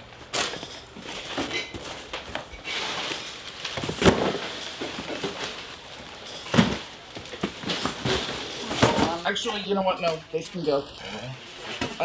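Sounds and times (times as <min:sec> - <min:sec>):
cardboard boxes rustling: 0:00.4 - 0:10.8.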